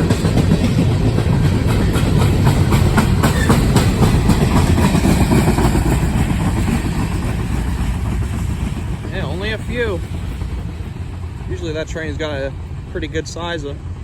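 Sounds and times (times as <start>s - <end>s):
wheels clicking over rail joints: 0.0s - 13.8s
freight train cars rumbling past: 0.0s - 14.0s.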